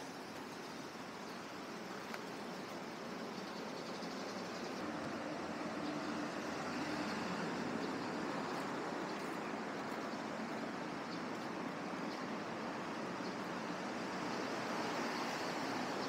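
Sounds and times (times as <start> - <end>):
road traffic hiss: 0.0 - 16.0.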